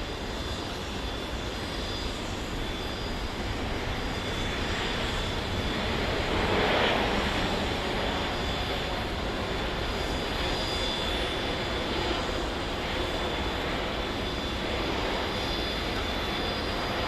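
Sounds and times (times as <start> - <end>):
jet engines rushing and whining: 0.0 - 17.0.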